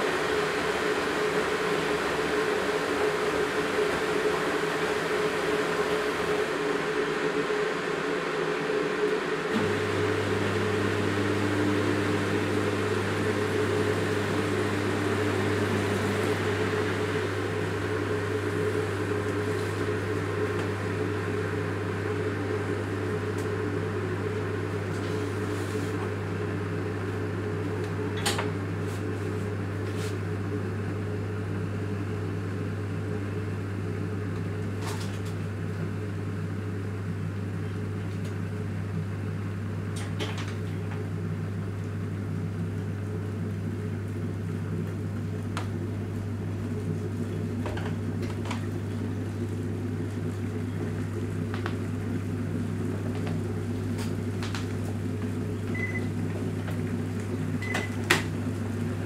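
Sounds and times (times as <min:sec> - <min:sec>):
electrical hum of appliances: 0:00.0 - 0:59.0.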